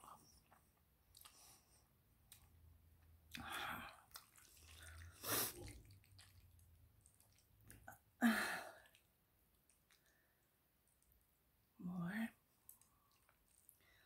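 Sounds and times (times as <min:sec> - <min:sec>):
breathy mouth sounds eating: 0:00.1 - 0:08.0, 0:08.8 - 0:11.0, 0:12.5 - 0:14.0.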